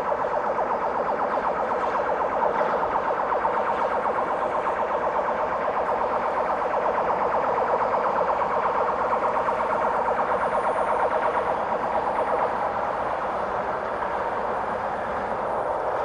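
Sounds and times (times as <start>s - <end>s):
train rhythmic clatter: 0.0s - 16.0s.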